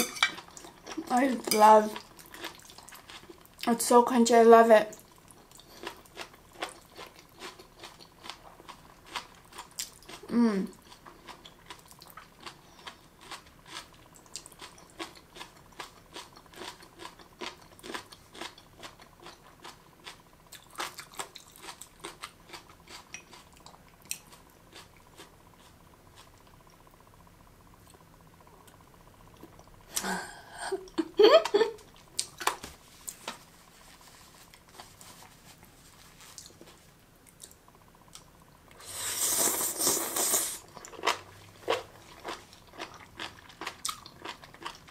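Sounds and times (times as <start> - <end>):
crunching and chewing: 0.3 - 3.7, 5.0 - 26.8, 31.8 - 44.9.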